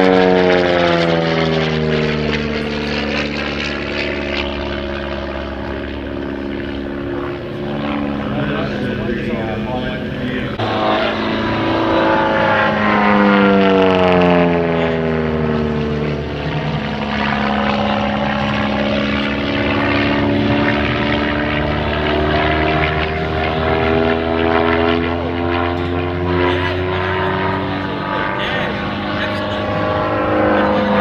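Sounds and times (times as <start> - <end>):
propeller plane engine overhead: 0.0 - 31.0.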